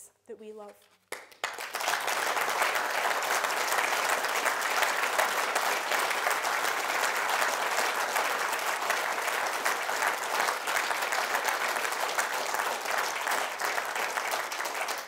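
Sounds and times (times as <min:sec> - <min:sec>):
audience applauding: 0:01.1 - 0:15.0.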